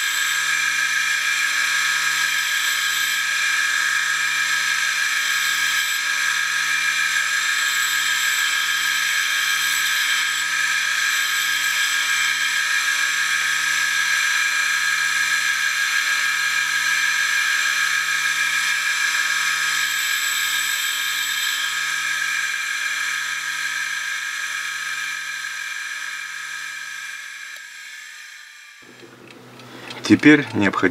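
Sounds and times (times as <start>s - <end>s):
electric grinder motor hum: 0.0s - 30.4s.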